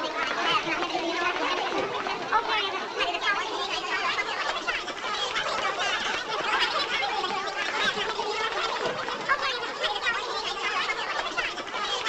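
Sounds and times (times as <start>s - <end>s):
crowd talking: 0.0s - 12.0s.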